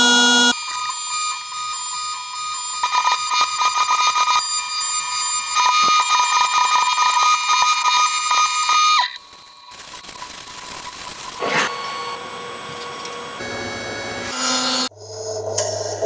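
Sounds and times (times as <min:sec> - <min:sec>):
milling machine whine: 0:00.0 - 0:16.0.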